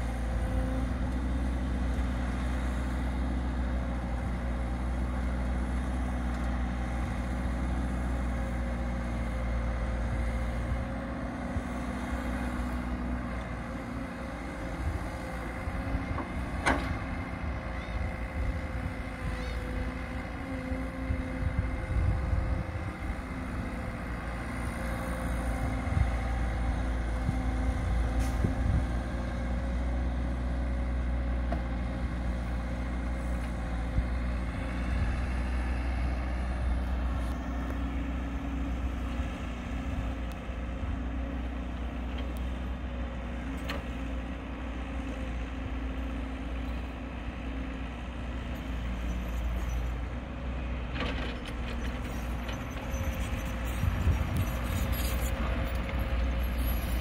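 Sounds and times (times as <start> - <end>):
excavator diesel engine running: 0.0 - 57.0
trucks idling: 0.0 - 57.0.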